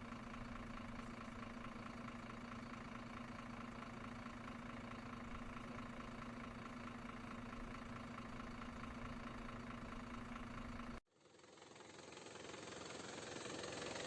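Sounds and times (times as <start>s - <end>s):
model vehicle engine humming: 0.0s - 14.0s.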